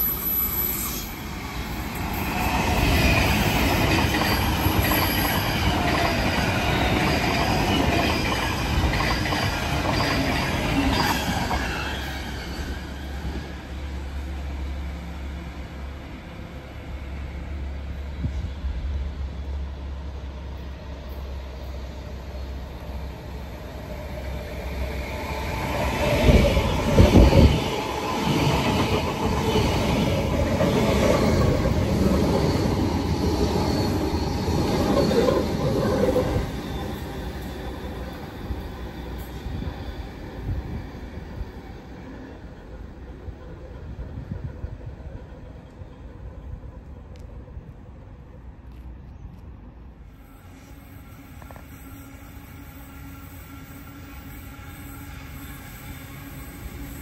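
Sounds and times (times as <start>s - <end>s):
train wheel squeal: 0.0s - 15.1s, 20.7s - 47.0s, 50.0s - 57.0s
train pulling in: 0.0s - 57.0s.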